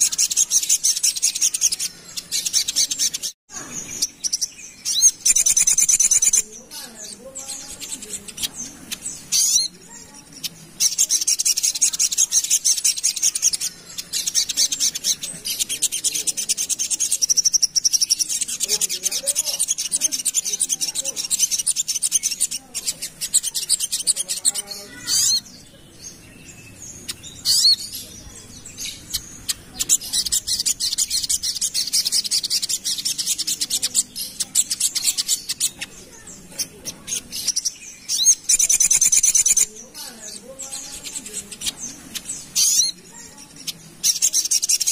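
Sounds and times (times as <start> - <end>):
bird trilling song: 0.0 - 44.9.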